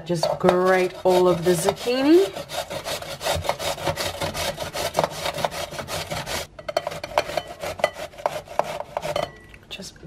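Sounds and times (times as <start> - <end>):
zucchini grated on box grater: 0.0 - 9.3.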